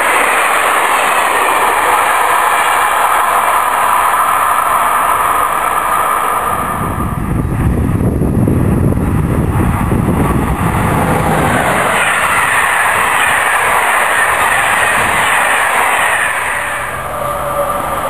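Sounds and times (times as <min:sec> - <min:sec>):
train passing at speed: 0:00.0 - 0:18.0
wheels rushing on rail: 0:00.0 - 0:18.0.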